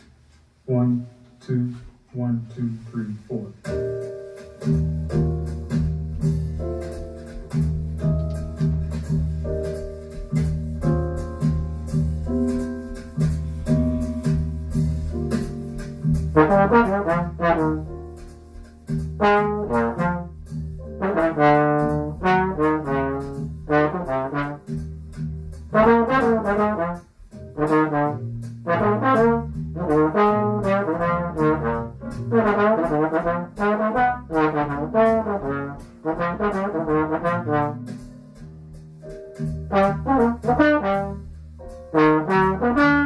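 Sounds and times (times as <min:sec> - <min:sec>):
trombone jazz ballad: 0:03.5 - 0:43.0.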